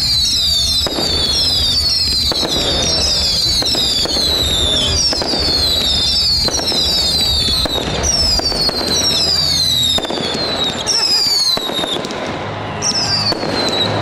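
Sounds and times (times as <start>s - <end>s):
fireworks bangs and crackling: 0.0s - 14.0s
fireworks whistles falling in pitch: 0.0s - 14.0s.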